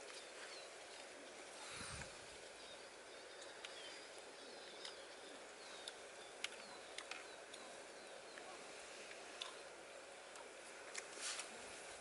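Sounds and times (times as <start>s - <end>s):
faint bird chirps: 0.1s - 10.1s.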